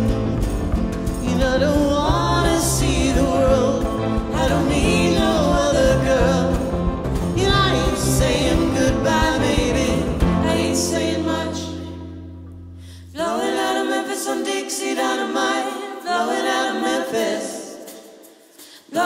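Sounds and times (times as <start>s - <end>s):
acoustic band music with singing: 0.0s - 19.0s
a cappella voices in harmony: 1.0s - 19.0s.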